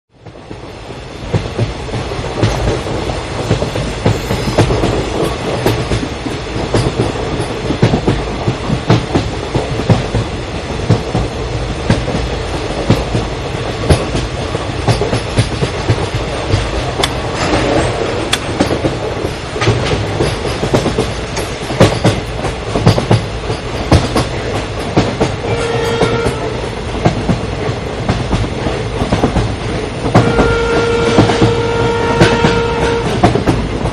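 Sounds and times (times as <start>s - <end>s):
clickety-clack of rail joints: 0.1s - 33.9s
train wheels rumbling on rails: 0.1s - 33.9s.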